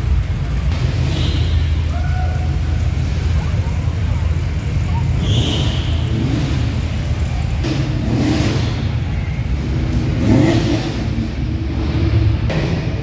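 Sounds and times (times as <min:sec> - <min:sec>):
car engine revving: 0:00.0 - 0:13.0
car engines rumbling: 0:00.0 - 0:13.0.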